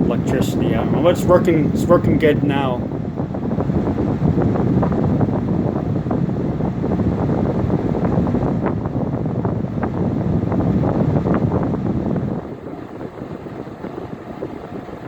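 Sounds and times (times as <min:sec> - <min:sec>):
air conditioner fan blowing: 0:00.0 - 0:15.0.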